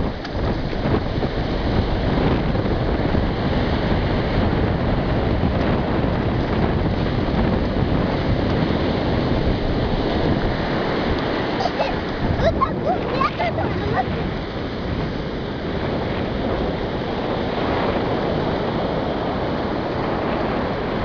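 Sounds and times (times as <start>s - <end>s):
surf washing over sand: 0.0s - 21.0s
wind buffeting microphone: 0.0s - 21.0s.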